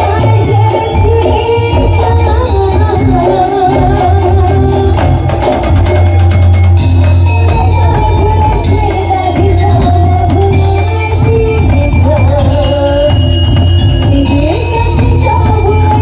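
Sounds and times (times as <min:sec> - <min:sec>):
heavy drums: 0:00.0 - 0:16.0
wavering melody line: 0:00.0 - 0:16.0.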